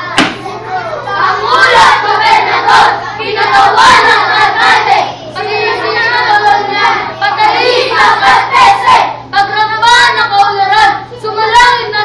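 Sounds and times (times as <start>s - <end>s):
children singing in unison: 0.0s - 10.0s.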